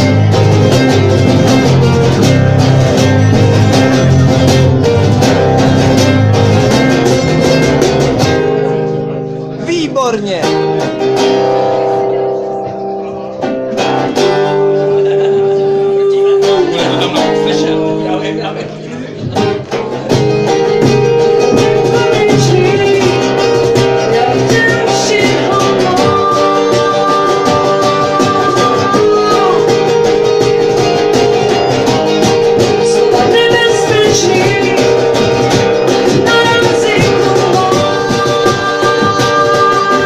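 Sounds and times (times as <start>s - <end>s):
acoustic band with guitar: 0.0s - 40.0s.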